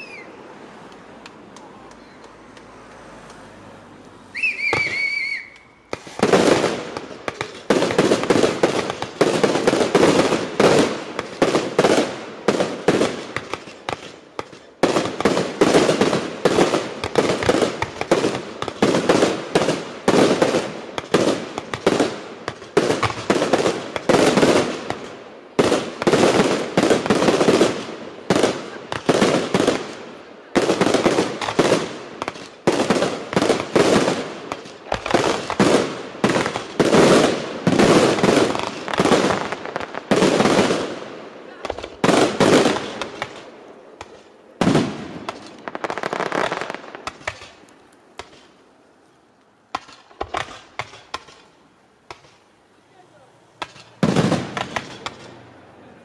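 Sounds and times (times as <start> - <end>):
fireworks bursts and crackles: 0.0 - 0.3, 4.3 - 48.8, 49.5 - 56.0.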